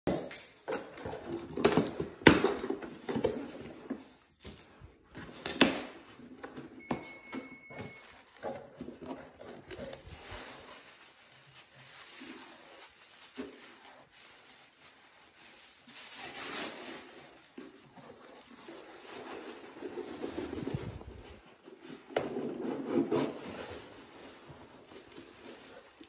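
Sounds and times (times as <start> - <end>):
rummaging in box: 0.2 - 26.0.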